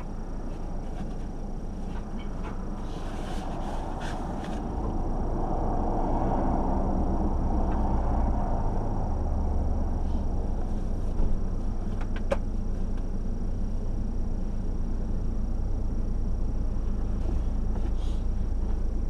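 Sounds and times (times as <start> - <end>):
car engine low rumble: 0.0 - 19.0.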